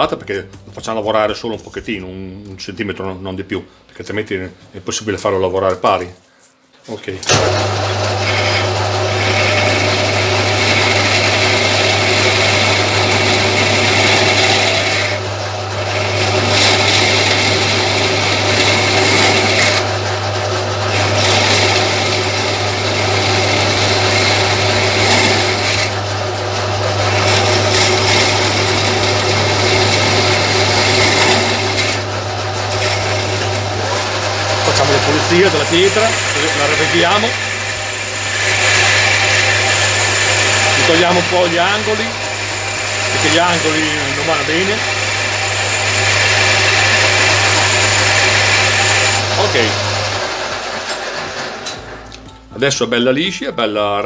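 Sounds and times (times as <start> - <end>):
lathe humming: 7.2 - 52.3.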